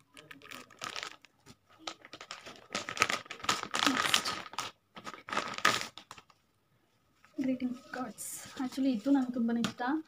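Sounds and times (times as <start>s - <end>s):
plastic and paper crinkling: 0.0s - 6.5s, 7.1s - 10.0s.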